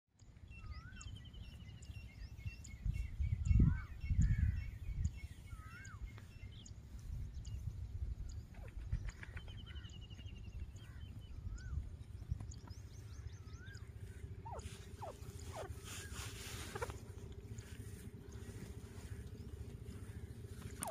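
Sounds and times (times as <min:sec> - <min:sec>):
francolins calling: 0:00.3 - 0:20.9
wind rumbling on microphone: 0:00.6 - 0:20.9.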